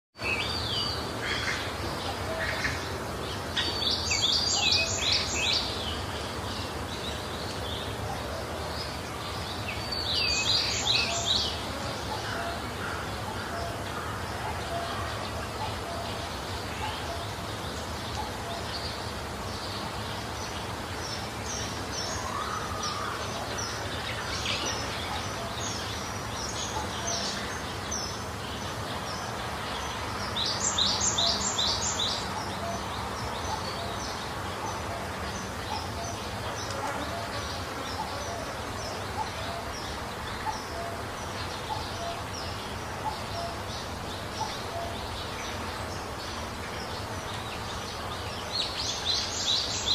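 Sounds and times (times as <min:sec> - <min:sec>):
birds chirping: 0:00.2 - 0:49.9
steady background hiss: 0:00.2 - 0:49.9.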